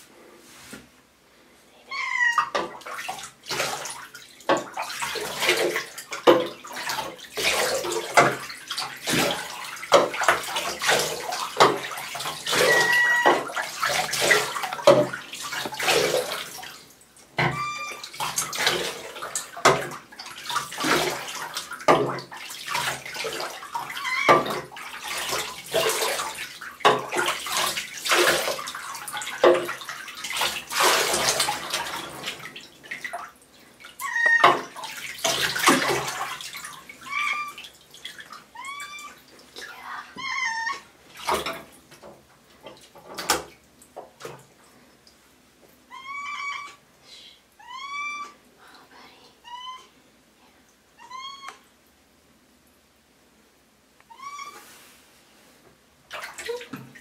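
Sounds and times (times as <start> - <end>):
bathwater splashing and sloshing: 2.1 - 47.0, 54.1 - 57.0.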